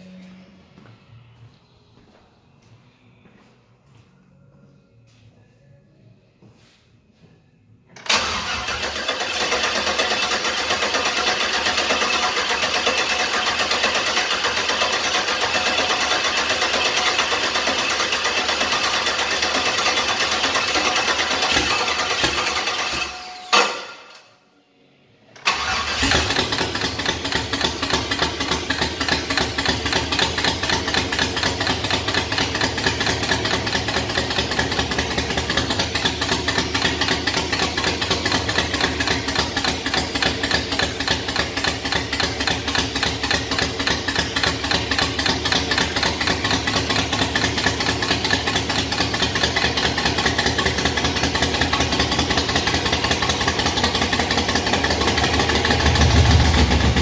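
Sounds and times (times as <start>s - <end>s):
engine running rough: 8.1s - 23.2s, 25.5s - 57.0s.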